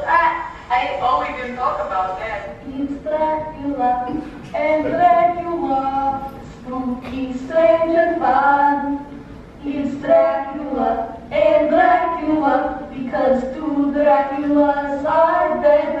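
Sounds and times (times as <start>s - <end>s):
person singing over loudspeaker: 0.0s - 9.0s, 9.6s - 16.0s.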